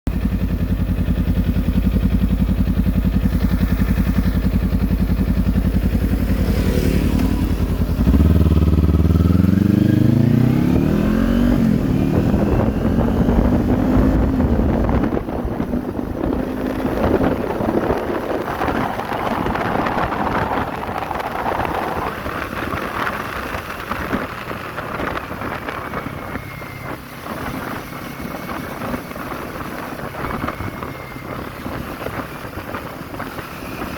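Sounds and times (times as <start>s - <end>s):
motorcycle engine revving: 0.1s - 33.9s
wind noise on microphone: 0.1s - 33.9s.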